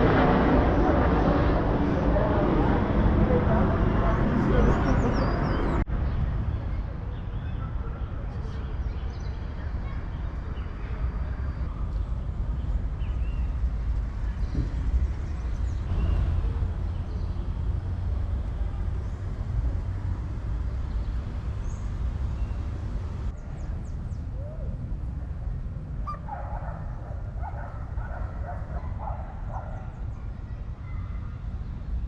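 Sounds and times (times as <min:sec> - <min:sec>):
city street rumble: 0:00.0 - 0:32.0.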